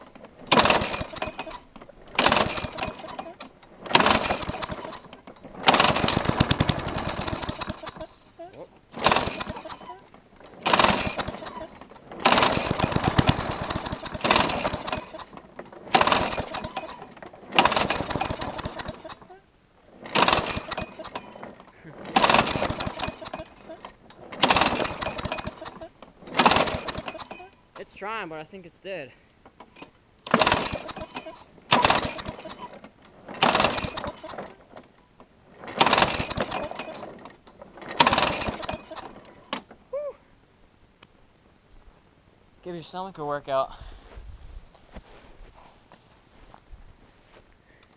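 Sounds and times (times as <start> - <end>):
mower engine cranking and sputtering: 0.0 - 39.9.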